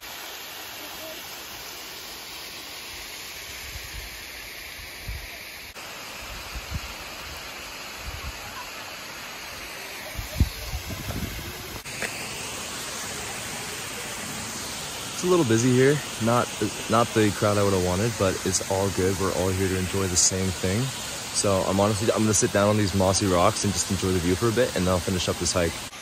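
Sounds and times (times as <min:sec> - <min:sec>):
waterfall rushing water: 0:00.0 - 0:26.0.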